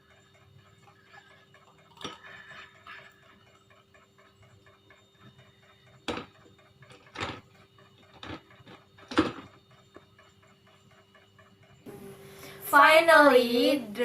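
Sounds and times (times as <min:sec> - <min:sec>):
fast steady ticking: 0:00.0 - 0:11.9.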